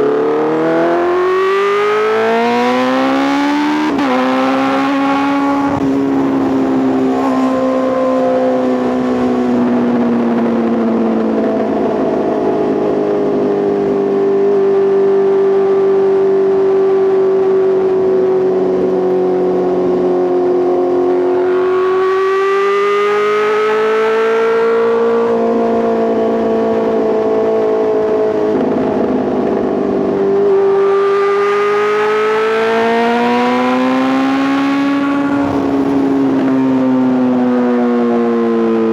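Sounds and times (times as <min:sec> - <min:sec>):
motorcycle exhaust while riding: 0:00.0 - 0:38.9.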